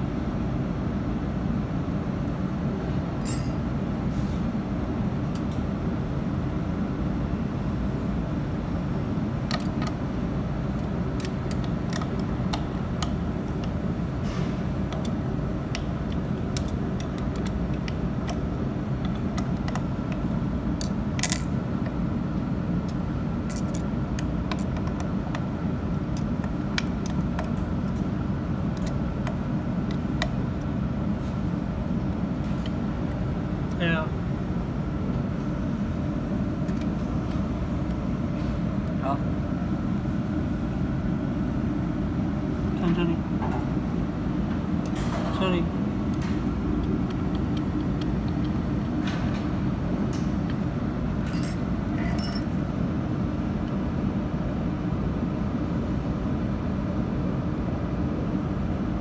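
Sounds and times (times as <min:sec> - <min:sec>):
low hum of equipment: 0:00.0 - 0:59.0.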